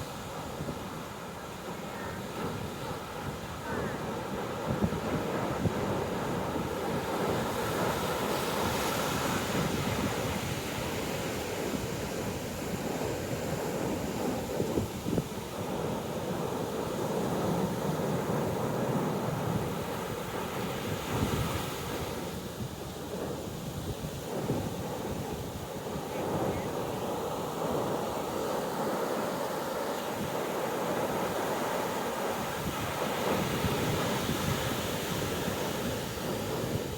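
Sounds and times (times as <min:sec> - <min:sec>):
ocean surf breaking: 0:00.0 - 0:36.9
wind buffeting microphone: 0:00.0 - 0:36.9.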